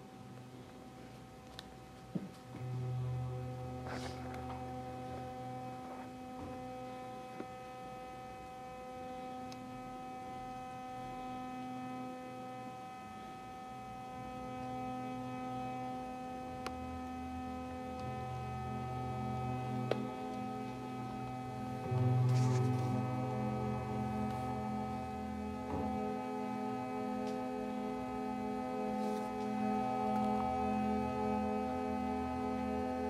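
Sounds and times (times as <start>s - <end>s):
electronic drone music: 2.6s - 33.0s
low drone tone: 2.6s - 33.0s.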